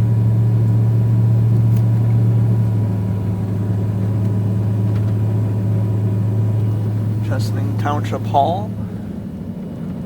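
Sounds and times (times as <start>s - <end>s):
road noise: 0.0s - 10.0s
truck engine droning: 0.0s - 10.0s.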